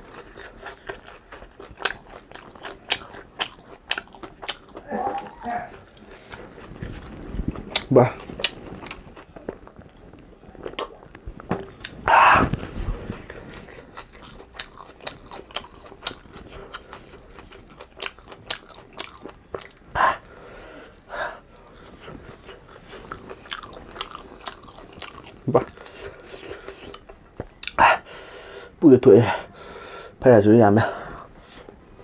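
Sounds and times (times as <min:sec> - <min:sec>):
person chewing crunchy food: 0:00.0 - 0:28.8.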